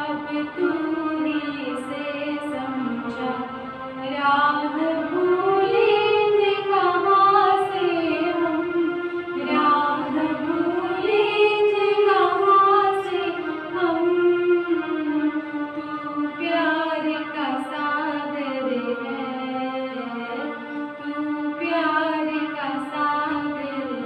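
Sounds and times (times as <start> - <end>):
two women singing: 0.0 - 24.0.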